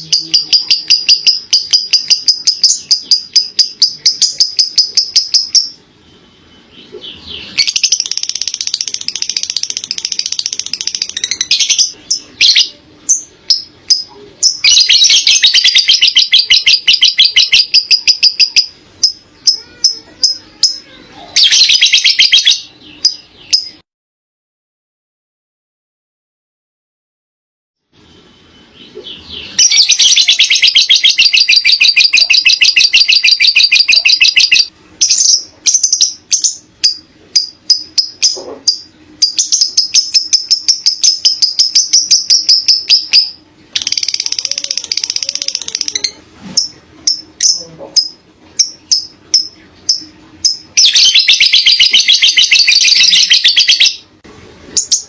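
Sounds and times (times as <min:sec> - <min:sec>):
lovebird chattering trill: 0:00.0 - 0:05.8, 0:06.5 - 0:23.8, 0:28.8 - 0:54.1
sharp bird chirps: 0:00.0 - 0:20.8, 0:21.4 - 0:23.8, 0:28.0 - 0:44.4, 0:45.8 - 0:54.1.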